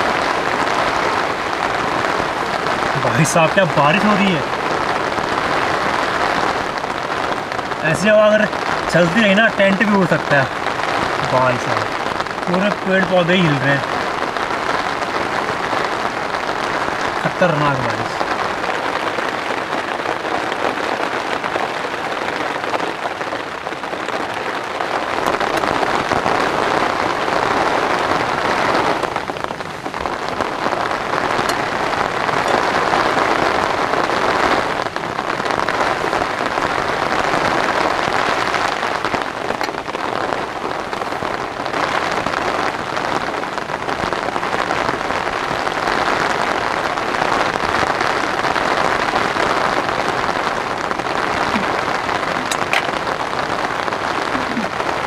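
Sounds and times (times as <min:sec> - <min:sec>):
heavy rain on tent fabric: 0:00.0 - 0:55.0.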